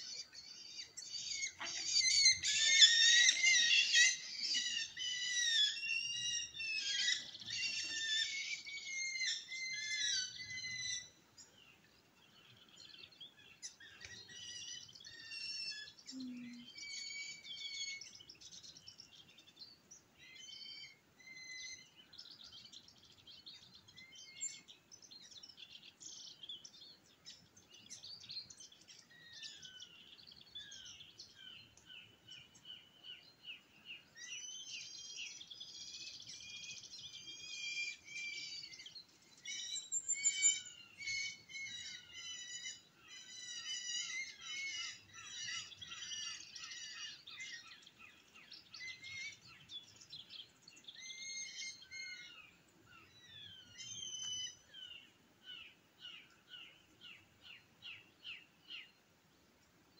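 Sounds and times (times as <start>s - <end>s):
small birds chirping and trilling: 0.0s - 59.9s.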